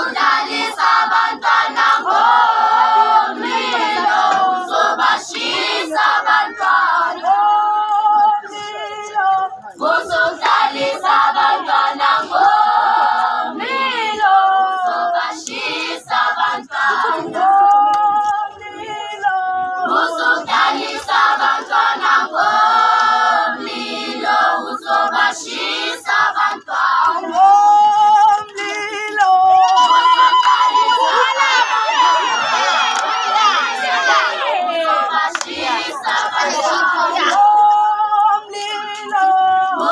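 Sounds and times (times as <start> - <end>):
girls singing in chorus: 0.0 - 29.9, 33.4 - 39.9.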